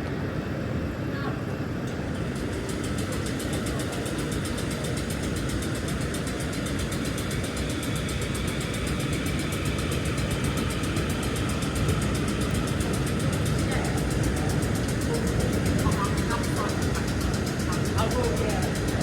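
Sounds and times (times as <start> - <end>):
electric train rumble and hiss: 0.0 - 19.0.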